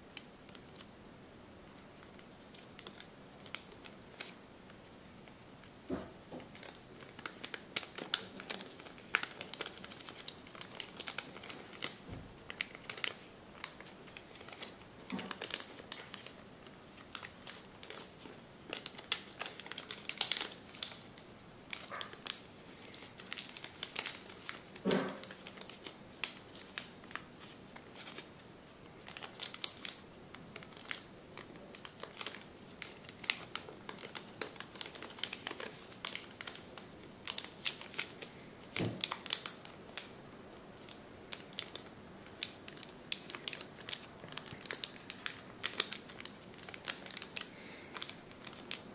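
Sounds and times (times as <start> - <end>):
paper rustling and crinkling: 1.7 - 4.4, 6.0 - 40.1, 40.8 - 48.9.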